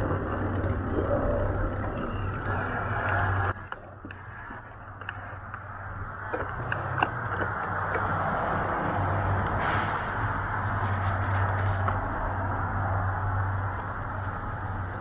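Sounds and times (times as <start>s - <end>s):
low vehicle hum: 0.0s - 15.0s
traffic noise: 0.0s - 15.0s.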